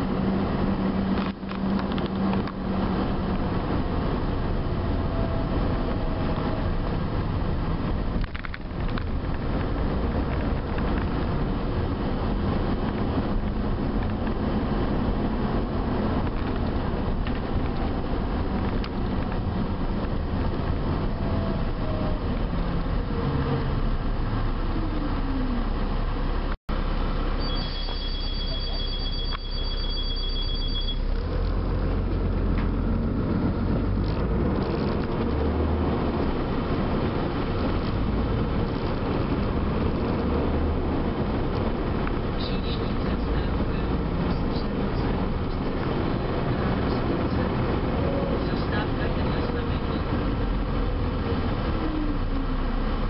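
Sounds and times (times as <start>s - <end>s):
bus engine hum: 0.0s - 53.0s
road noise: 0.0s - 53.0s.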